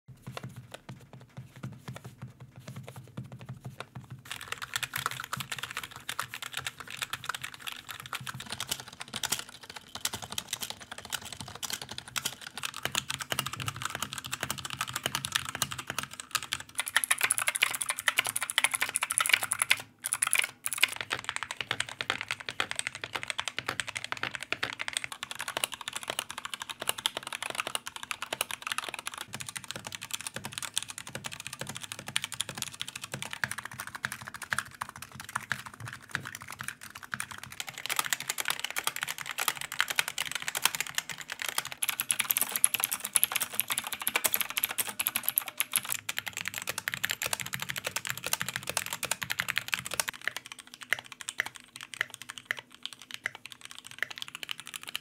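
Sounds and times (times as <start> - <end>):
fast typing on keyboards: 0.2 - 55.0.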